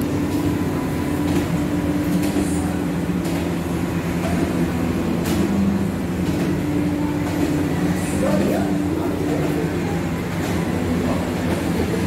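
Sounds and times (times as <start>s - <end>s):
low droning machine hum: 0.0s - 12.0s.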